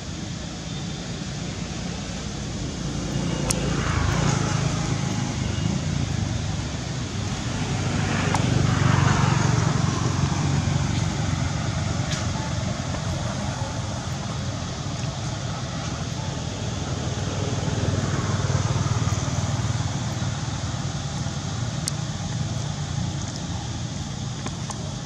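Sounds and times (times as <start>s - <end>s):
passing traffic rumble: 0.0s - 25.0s.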